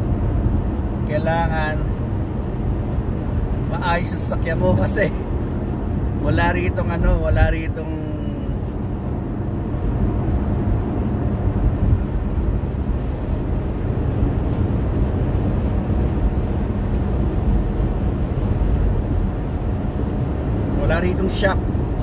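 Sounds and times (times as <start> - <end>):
road and engine rumble in car: 0.0 - 22.0.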